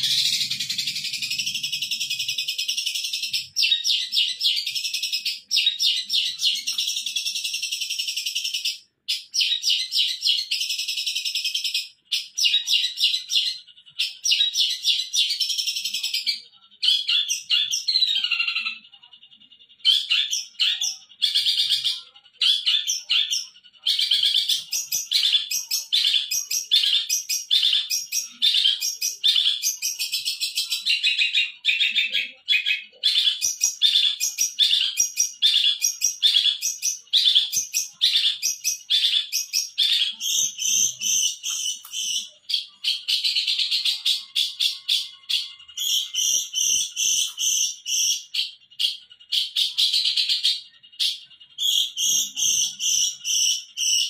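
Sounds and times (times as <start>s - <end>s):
bird chattering song: 0.0s - 54.0s.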